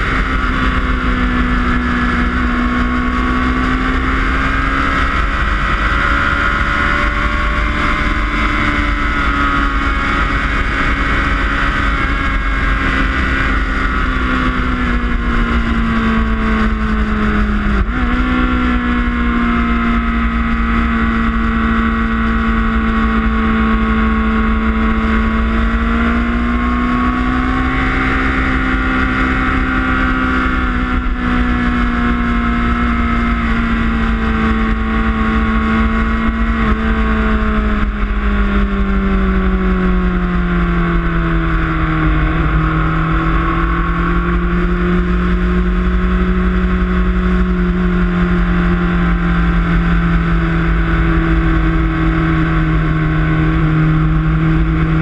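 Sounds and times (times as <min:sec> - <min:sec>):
low wind rumble: 0:00.0 - 0:55.0
motorcycle engine running: 0:00.0 - 0:55.0.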